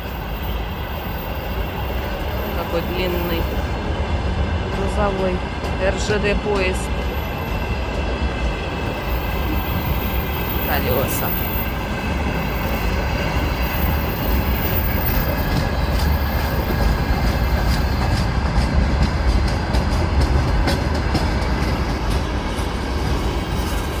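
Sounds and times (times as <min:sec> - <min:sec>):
freight train rumbling past: 0:00.0 - 0:24.0
wheels clacking over rail joints: 0:02.1 - 0:24.0.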